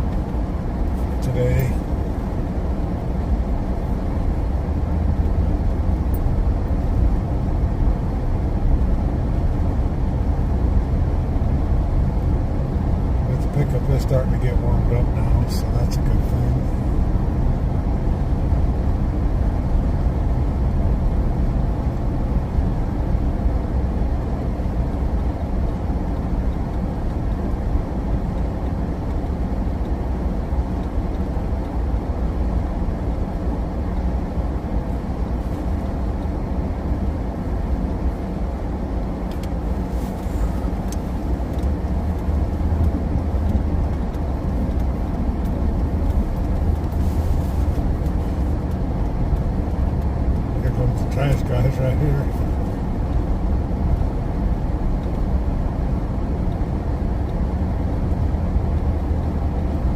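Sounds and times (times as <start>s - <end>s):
vehicle engine and tyre rumble: 0.0s - 59.9s.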